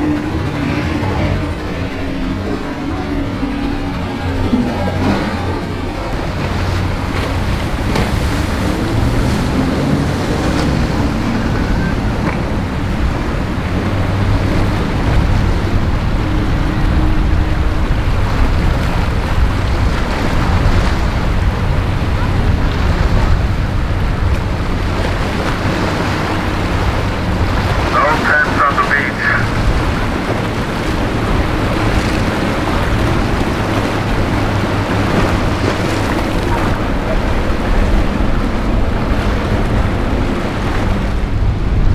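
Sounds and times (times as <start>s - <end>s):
wind noise on microphone: 0.0s - 27.9s, 29.5s - 41.9s
outboard motor running: 0.0s - 41.9s
wash of waves: 0.0s - 41.9s.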